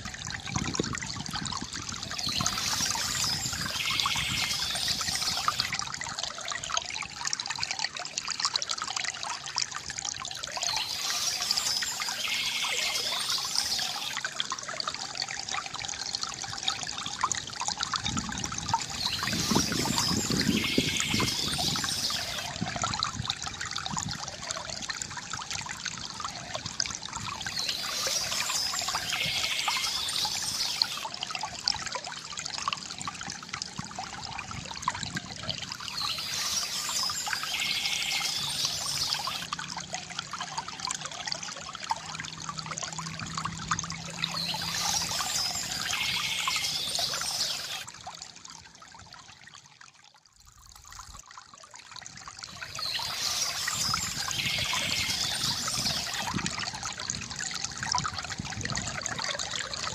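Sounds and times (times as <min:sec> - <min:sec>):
water trickling from fountain: 0:00.0 - 0:59.9.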